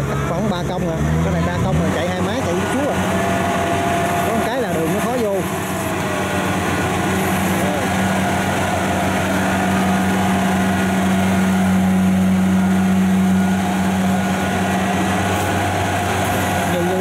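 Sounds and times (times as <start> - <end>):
harvester engine running under load: 0.0 - 17.0.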